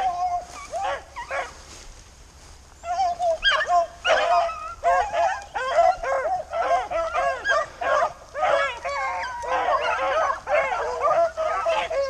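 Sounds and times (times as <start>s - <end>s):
hounds baying: 0.0s - 1.8s, 2.8s - 12.0s.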